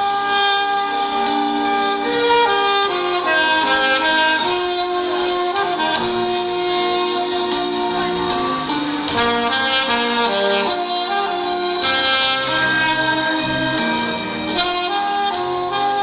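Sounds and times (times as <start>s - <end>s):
musical accompaniment: 0.0s - 16.0s
saxophone melody: 0.0s - 16.0s.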